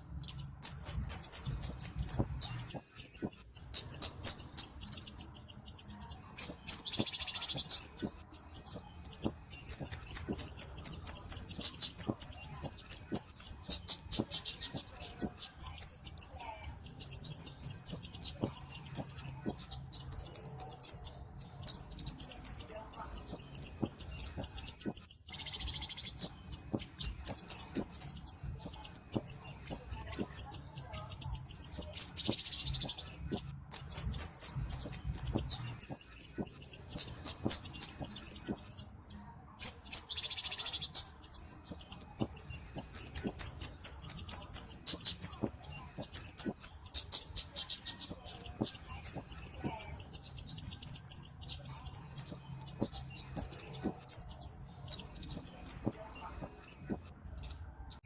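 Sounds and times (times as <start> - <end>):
bird rapid ticking calls: 0.0 - 58.0.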